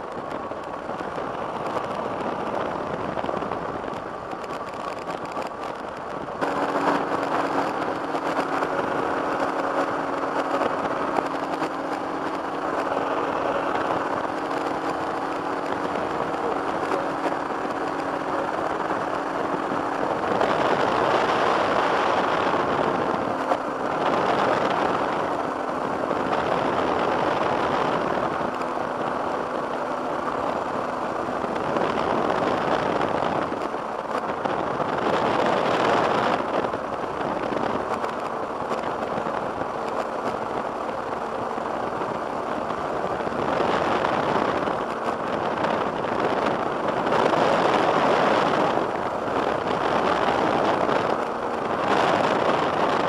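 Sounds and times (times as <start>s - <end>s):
two-stroke engine running: 0.0s - 53.0s
wind rushing on microphone: 0.0s - 53.0s.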